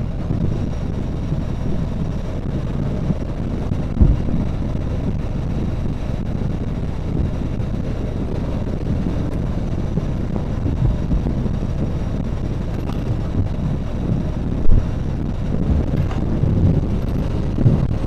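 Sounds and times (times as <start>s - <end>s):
motorcycle engine and tyres: 0.0s - 18.0s
wind blasting microphone: 0.0s - 18.0s.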